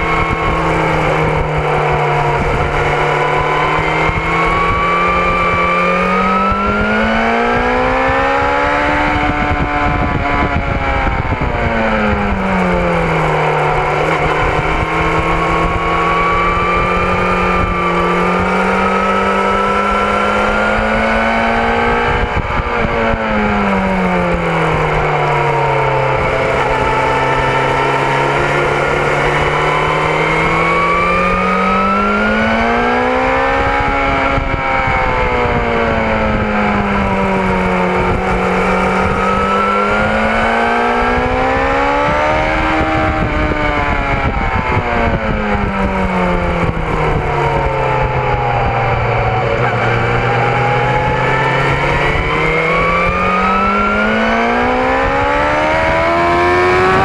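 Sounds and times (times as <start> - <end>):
motorcycle engine accelerating: 0.0 - 57.0
wind noise on microphone: 0.0 - 57.0.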